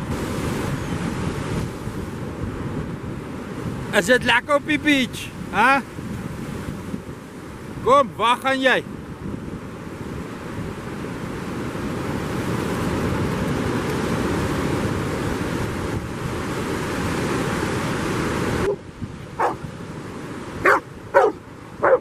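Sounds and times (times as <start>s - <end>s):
wind buffeting microphone: 0.0s - 4.0s, 5.1s - 8.2s, 8.8s - 22.0s
ocean surf: 0.0s - 22.0s.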